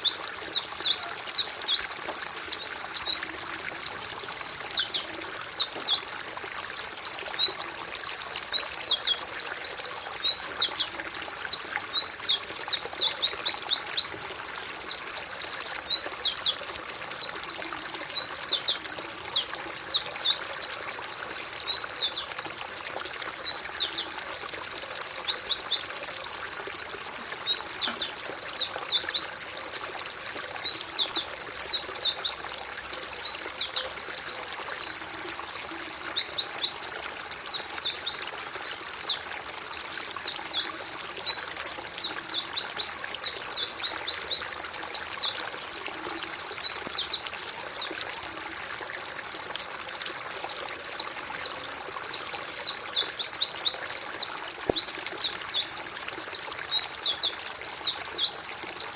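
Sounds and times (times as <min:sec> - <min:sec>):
running water trickling: 0:00.0 - 0:58.9.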